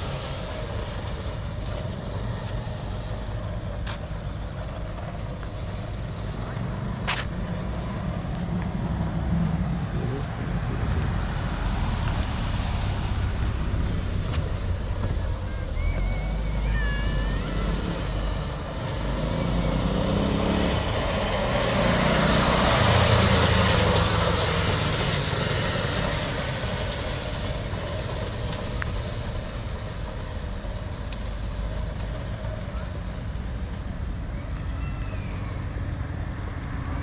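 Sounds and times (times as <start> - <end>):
small motorcycle engine passing: 6.1 - 37.0.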